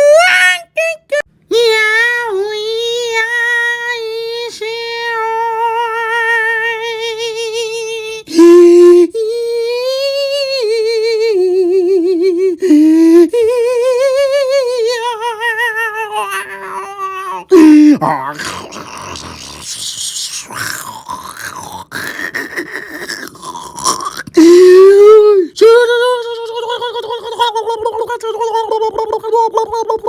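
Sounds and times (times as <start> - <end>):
high voice singing with vibrato: 0.0 - 30.0.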